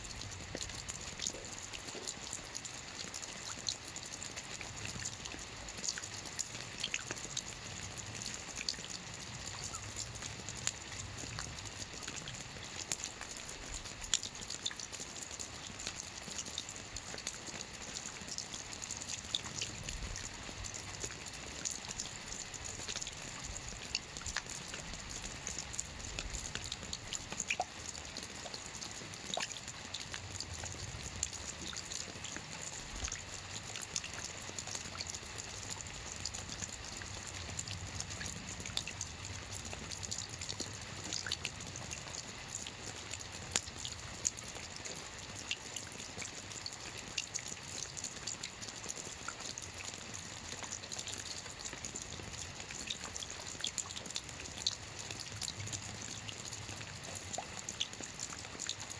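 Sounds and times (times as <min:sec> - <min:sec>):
soft rain on a roof: 0:00.0 - 0:58.9.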